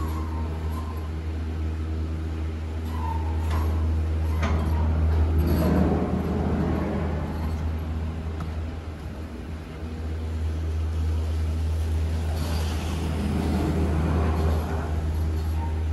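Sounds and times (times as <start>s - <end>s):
machinery low hum: 0.0s - 15.9s.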